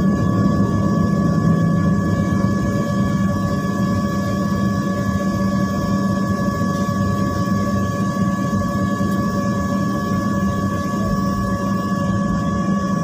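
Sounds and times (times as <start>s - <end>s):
airliner cabin hum: 0.0s - 13.0s.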